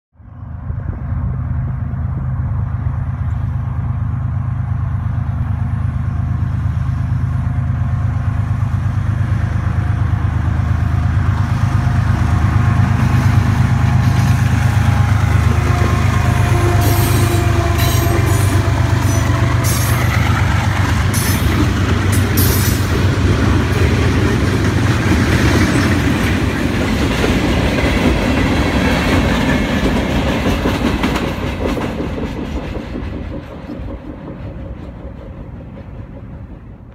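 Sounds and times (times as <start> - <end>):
diesel locomotive engine drone: 0.1 - 36.9.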